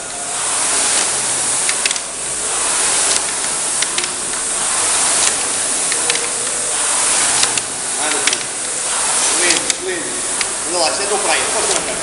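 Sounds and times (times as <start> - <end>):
rowing machine fan whooshing: 0.0 - 12.0.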